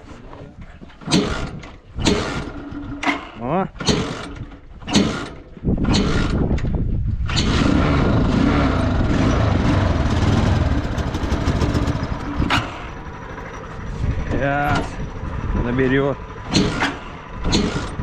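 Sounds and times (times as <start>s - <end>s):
small engine running: 1.0s - 6.6s, 7.2s - 18.0s.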